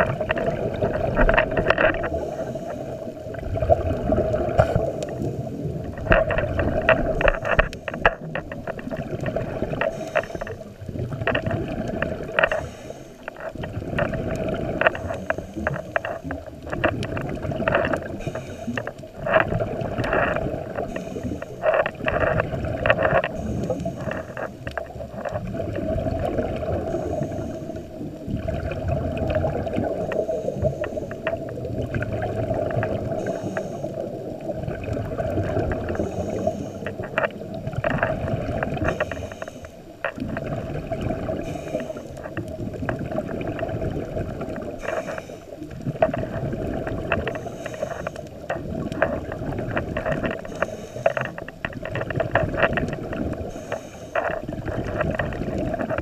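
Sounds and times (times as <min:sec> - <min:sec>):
muffled underwater hum: 0:00.0 - 0:56.0
regulator exhale bubbling: 0:00.0 - 0:56.0.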